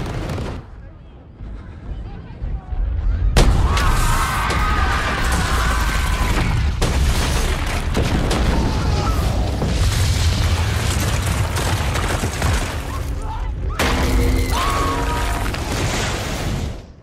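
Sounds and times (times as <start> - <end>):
deep rolling rumble with crackling: 0.0 - 13.8
explosion blast: 3.1 - 17.0.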